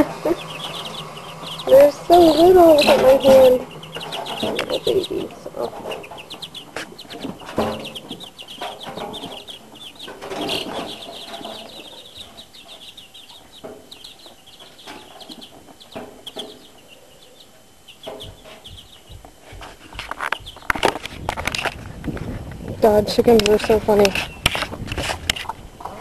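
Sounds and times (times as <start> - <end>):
knocks and rustling: 0.0 - 16.8, 18.0 - 26.0
baby chicks peeping: 0.0 - 26.0.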